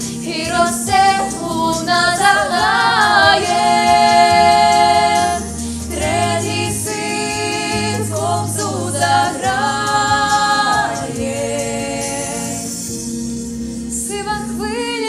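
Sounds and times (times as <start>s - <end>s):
girls singing in harmony: 0.0s - 13.0s.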